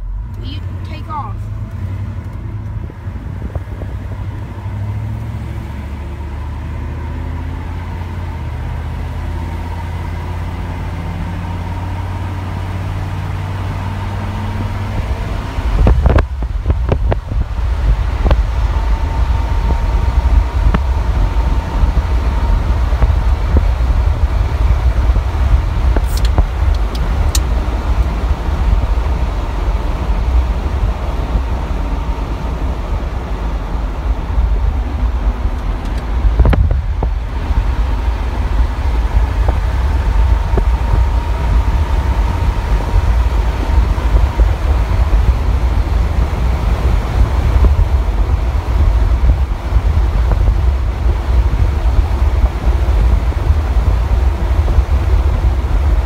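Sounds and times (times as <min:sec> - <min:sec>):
car engine and road hum: 0:00.0 - 0:56.0
wind buffeting microphone: 0:01.5 - 0:56.0.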